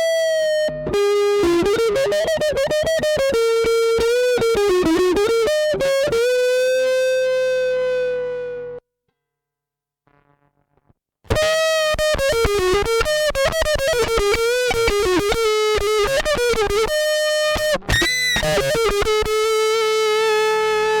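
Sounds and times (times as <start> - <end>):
fuzz electric guitar notes: 0.0 - 8.8, 11.3 - 21.0.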